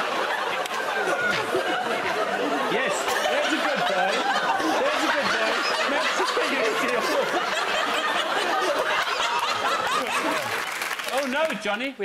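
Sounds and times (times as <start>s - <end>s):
audience laughing: 0.0s - 11.3s.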